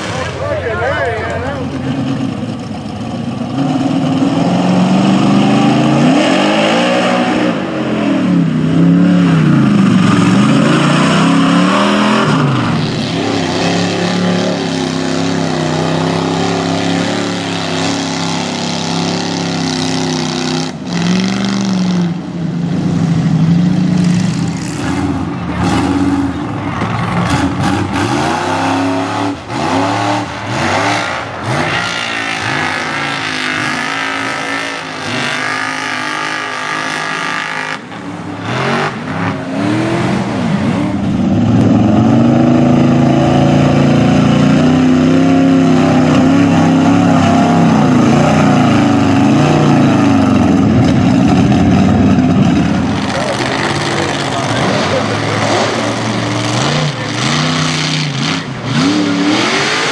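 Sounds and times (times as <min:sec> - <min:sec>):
truck engines revving hard: 0:00.0 - 0:59.9
tyres churning mud: 0:03.6 - 0:22.1, 0:23.5 - 0:59.9.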